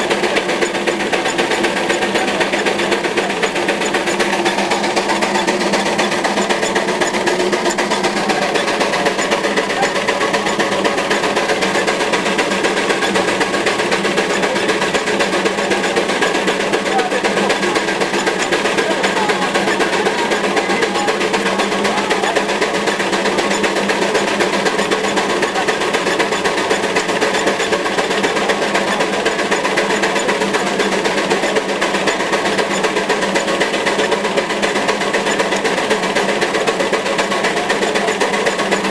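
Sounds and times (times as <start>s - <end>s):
lathe clattering: 0.0s - 38.9s
machine hum: 0.0s - 38.9s.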